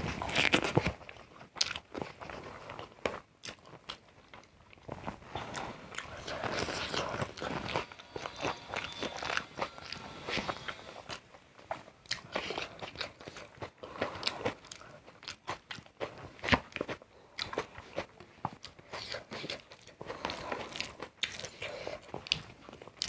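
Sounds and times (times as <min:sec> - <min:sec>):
person chewing crunchy food: 0:00.0 - 0:23.0.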